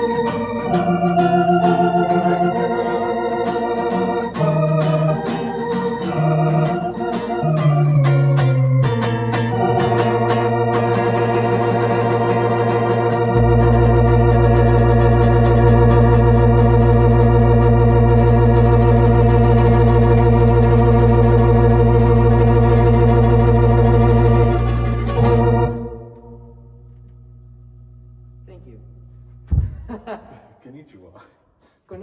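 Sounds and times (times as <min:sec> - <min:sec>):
organ chord with vibrato: 0:00.0 - 0:29.2
deep bass organ note: 0:00.0 - 0:30.0.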